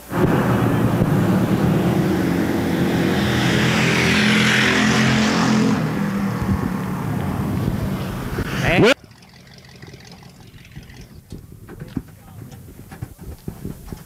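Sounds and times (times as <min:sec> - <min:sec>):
stock car engines at full throttle: 0:00.0 - 0:14.0.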